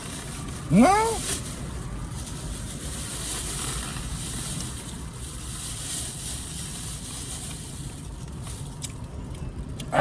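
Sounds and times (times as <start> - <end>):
low rumble with hiss: 0.0 - 10.0.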